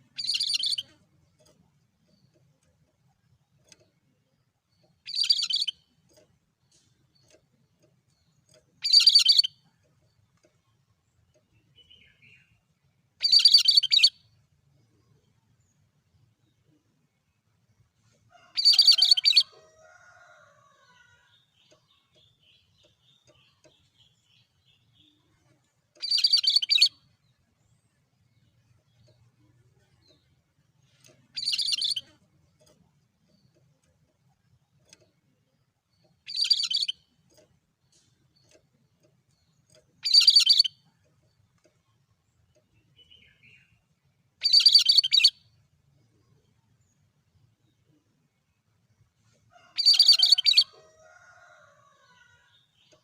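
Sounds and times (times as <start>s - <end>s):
faint bird chirps: 0.0s - 17.5s, 18.1s - 53.0s.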